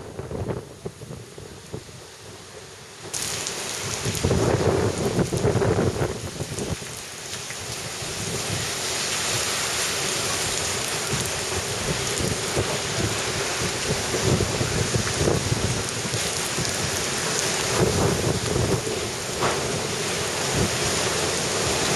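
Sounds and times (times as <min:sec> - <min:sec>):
gusty wind rumbling: 0:00.0 - 0:07.0, 0:07.6 - 0:21.9
heavy rain pouring: 0:00.0 - 0:21.9.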